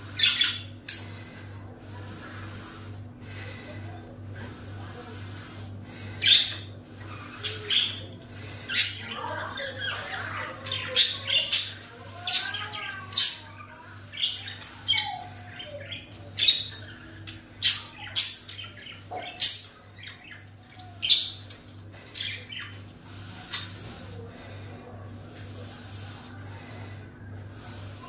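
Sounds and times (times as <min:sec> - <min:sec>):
birds chirping and squawking: 0:00.0 - 0:28.0
steady low hum: 0:00.0 - 0:28.0.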